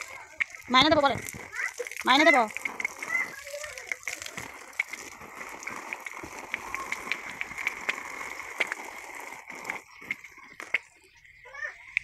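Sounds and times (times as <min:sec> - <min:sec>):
water pouring onto plants: 0:00.0 - 0:11.0.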